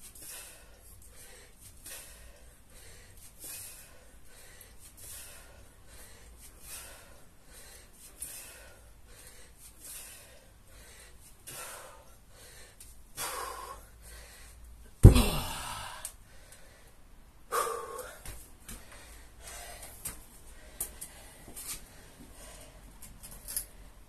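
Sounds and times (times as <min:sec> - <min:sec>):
man breathing hard: 0:00.2 - 0:23.0.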